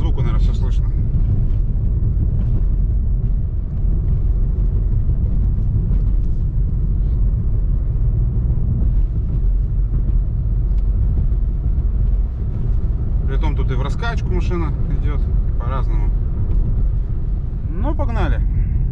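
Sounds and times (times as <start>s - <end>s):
tyre and suspension rumble: 0.0s - 18.9s.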